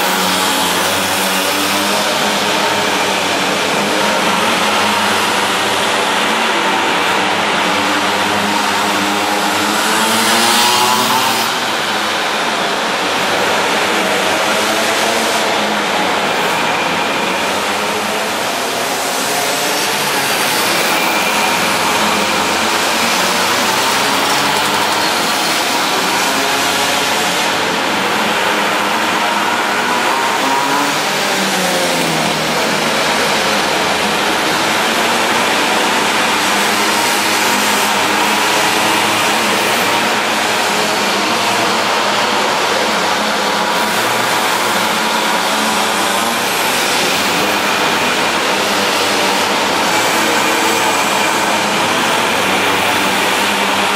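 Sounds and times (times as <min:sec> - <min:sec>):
minibike engines revving: 0:00.0 - 0:53.9.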